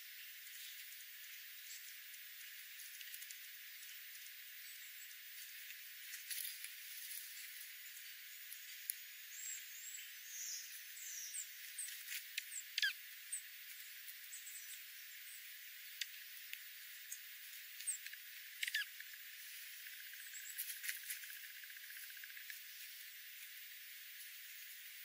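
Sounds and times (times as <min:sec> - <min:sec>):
small birds chirping: 0:00.0 - 0:25.0
steady hiss: 0:00.0 - 0:25.0.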